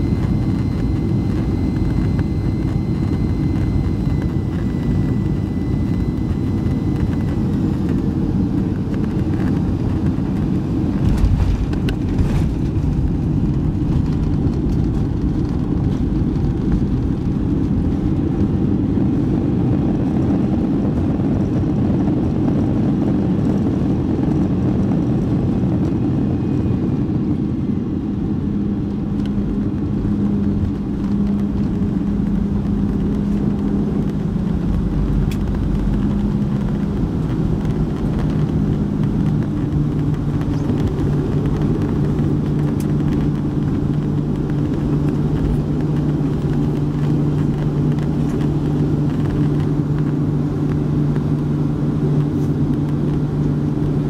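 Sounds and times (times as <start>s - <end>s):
steady hum: 0.0s - 23.0s, 24.6s - 54.0s
jet engines rumbling: 0.0s - 54.0s.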